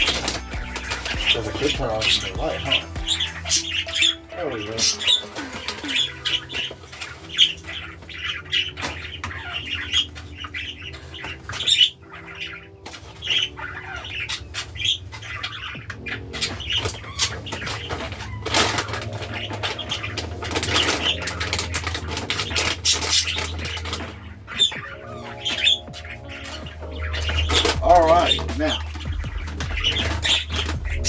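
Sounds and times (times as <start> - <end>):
budgerigars chirping: 0.0 - 31.0
rustling: 0.0 - 31.0.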